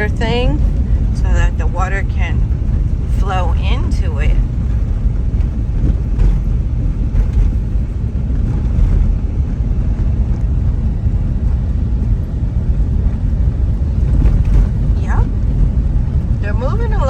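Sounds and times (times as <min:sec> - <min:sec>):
car driving road and engine rumble: 0:00.0 - 0:17.0.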